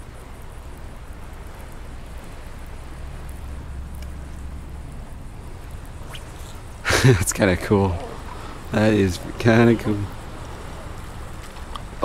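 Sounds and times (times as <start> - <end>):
faint hiss of open water: 0.0 - 12.0
wind rumbling on microphone: 0.0 - 12.0.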